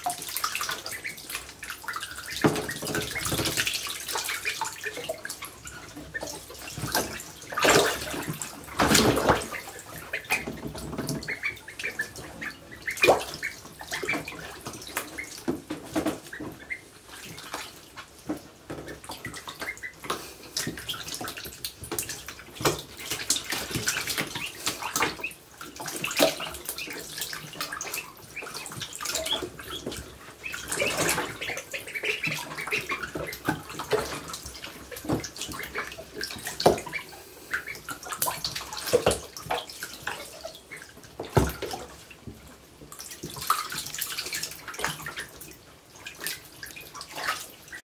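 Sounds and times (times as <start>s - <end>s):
ducklings splashing in water: 0.0s - 47.8s.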